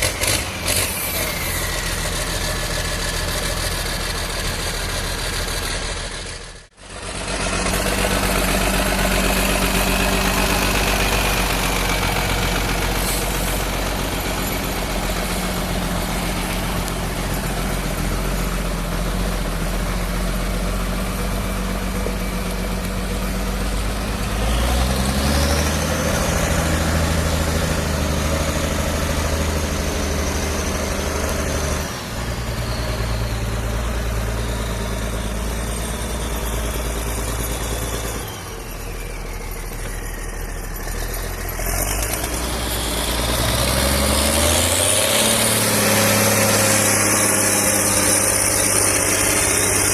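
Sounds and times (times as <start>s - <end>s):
tractor diesel engine idling and revving: 0.0s - 49.9s.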